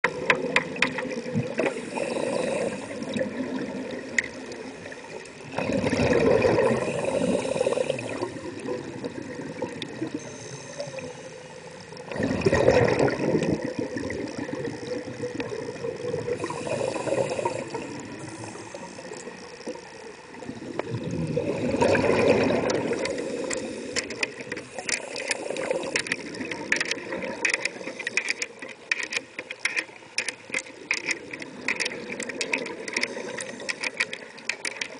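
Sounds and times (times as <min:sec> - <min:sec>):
exhaled bubbles from regulator: 0:00.0 - 0:28.2
watery background: 0:00.0 - 0:34.9.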